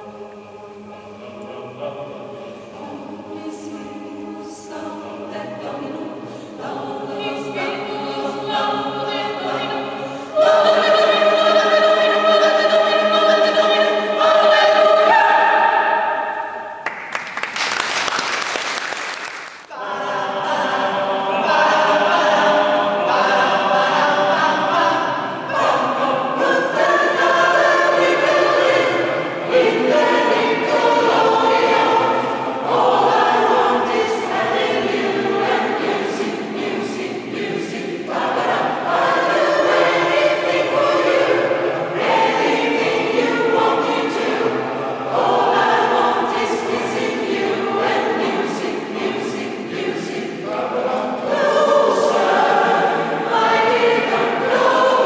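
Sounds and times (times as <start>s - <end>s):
mixed choir singing: 0.0s - 16.9s, 19.7s - 55.0s.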